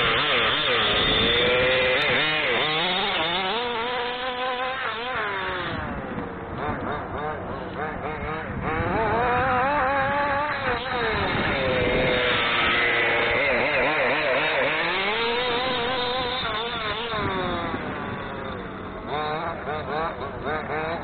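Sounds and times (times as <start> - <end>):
model buggy engine revving: 0.0 - 21.0
quick throttle blips: 0.0 - 21.0.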